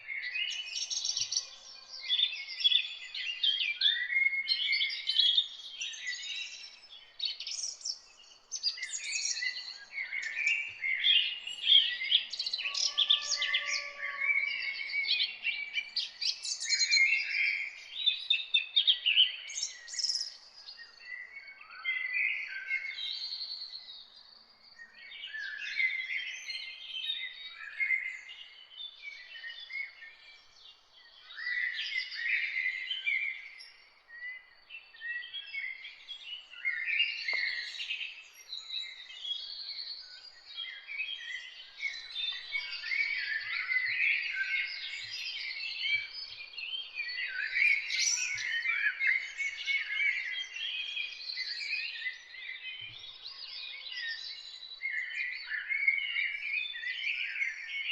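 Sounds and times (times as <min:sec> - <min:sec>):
songbirds chirping and trilling: 0:00.0 - 0:57.9.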